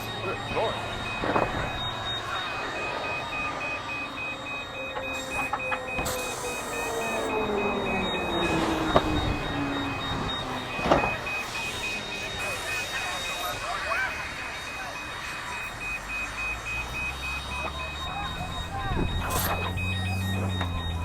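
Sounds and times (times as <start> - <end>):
fast beeping tone: 0.0 - 21.0
steady whine: 0.0 - 21.0.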